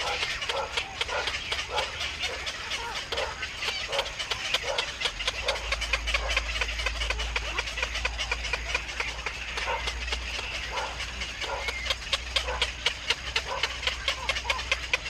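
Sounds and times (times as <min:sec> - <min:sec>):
birds chattering with clicking calls: 0:00.0 - 0:15.0.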